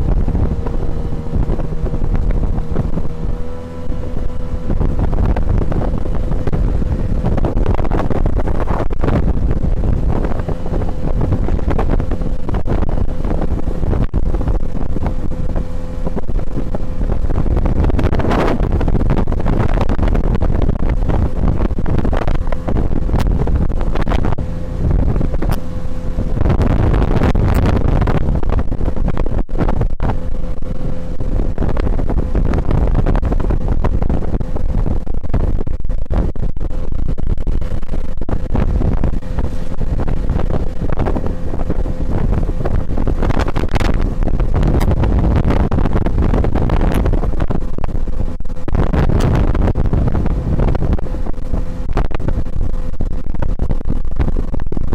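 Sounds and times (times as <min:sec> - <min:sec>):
outboard motor running: 0:00.0 - 0:54.9
wind buffeting microphone: 0:00.0 - 0:54.9.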